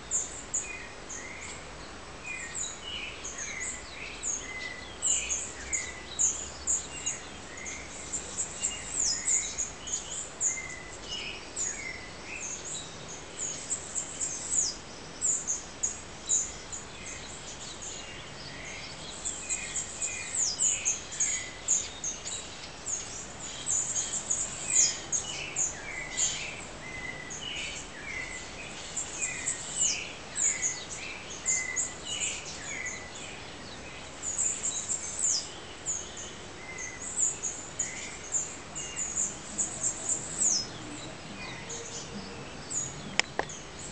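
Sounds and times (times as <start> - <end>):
faint steady hiss: 0.0 - 43.9
songbirds chirping and whistling: 0.0 - 43.9.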